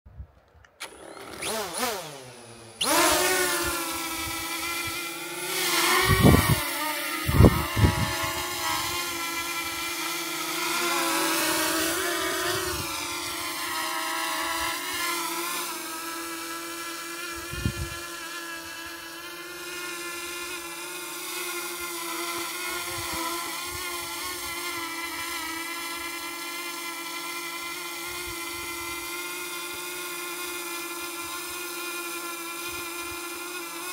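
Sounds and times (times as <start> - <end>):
drone propeller buzz: 0.8 - 33.9.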